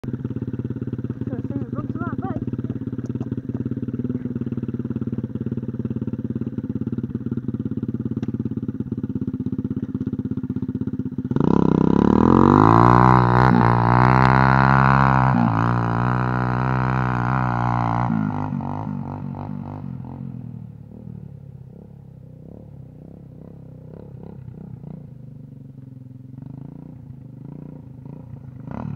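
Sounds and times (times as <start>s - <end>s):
pit bike engine revving: 0.0s - 21.1s, 26.4s - 28.9s.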